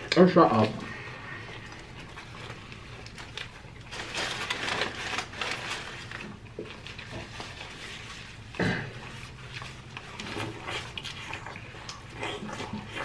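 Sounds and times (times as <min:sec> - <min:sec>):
chewing crispy food: 0:00.0 - 0:13.0.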